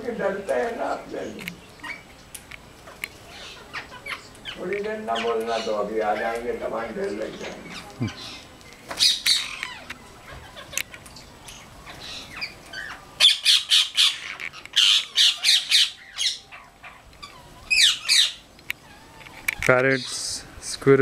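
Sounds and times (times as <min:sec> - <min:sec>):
parrots squawking: 0:00.0 - 0:02.2, 0:02.8 - 0:20.2.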